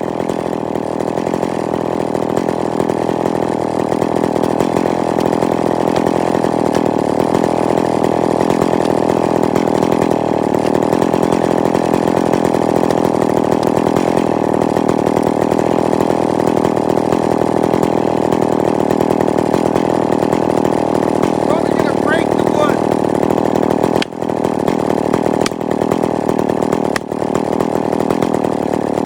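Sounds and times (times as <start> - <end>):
chainsaw engine running: 0.0 - 29.0.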